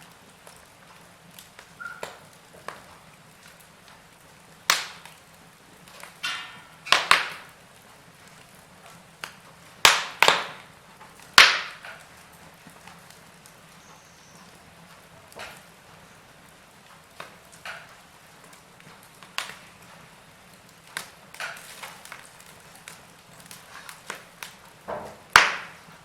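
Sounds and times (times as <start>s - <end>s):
burning logs crackling and popping: 0.0s - 26.0s
faint steady hiss: 0.0s - 26.0s
fire sizzling: 0.0s - 26.0s.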